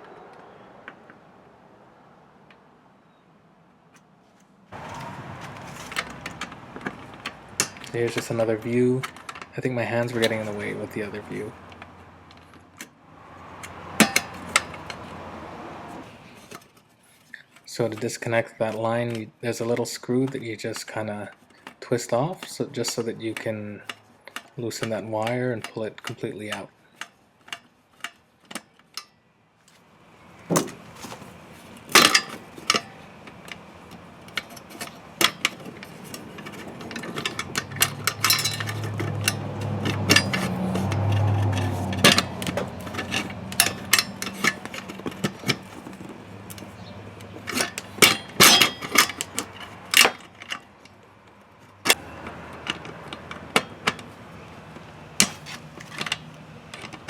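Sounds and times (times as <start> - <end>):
hand tools clicking on metal: 4.8 - 12.9, 13.5 - 15.2, 17.6 - 29.1, 31.8 - 57.0.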